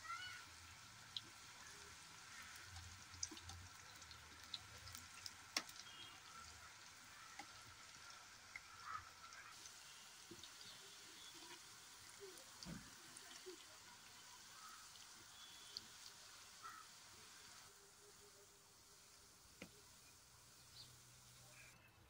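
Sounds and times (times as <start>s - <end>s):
dough sizzling in hot oil: 0.0s - 21.7s.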